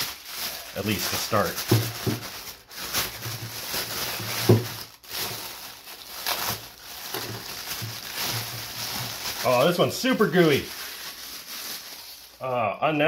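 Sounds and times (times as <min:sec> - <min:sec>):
plastic bag crinkling: 0:00.0 - 0:12.4.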